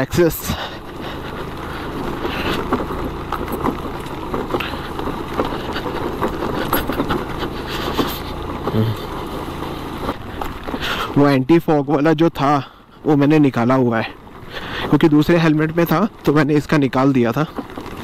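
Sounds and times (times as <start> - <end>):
scooter engine running: 0.0 - 11.5, 12.2 - 18.0
rattles and knocks from bumpy ride: 0.0 - 12.6, 13.2 - 18.0.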